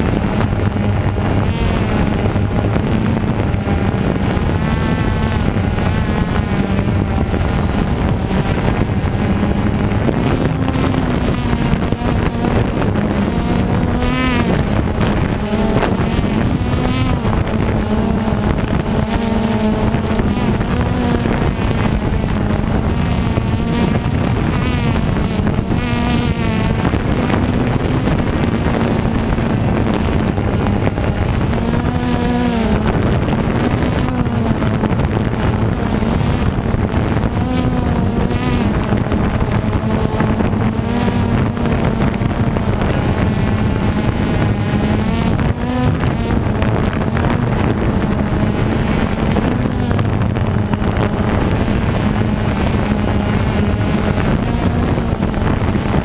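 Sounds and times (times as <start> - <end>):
drone propellers buzzing: 0.0 - 56.0
wind on microphone: 0.0 - 56.0.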